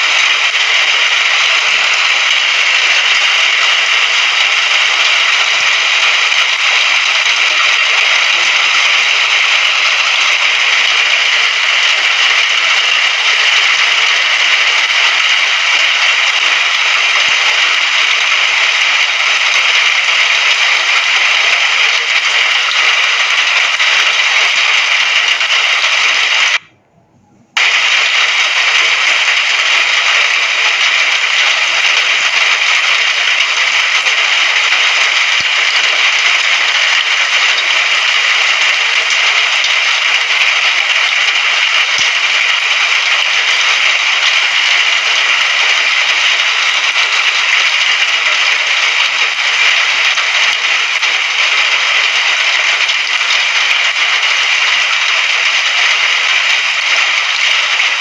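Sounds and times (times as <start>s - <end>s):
steady rain hiss: 0.0s - 26.7s, 27.6s - 58.0s.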